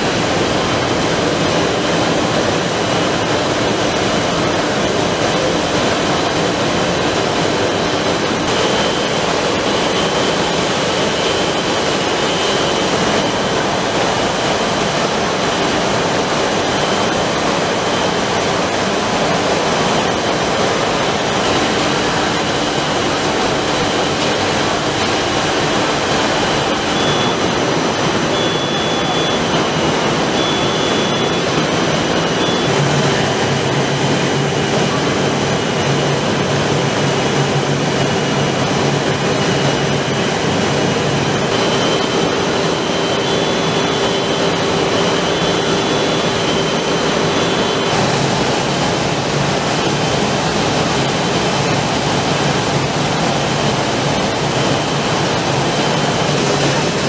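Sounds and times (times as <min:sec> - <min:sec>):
rush of machine noise and air: 0:00.0 - 0:57.0.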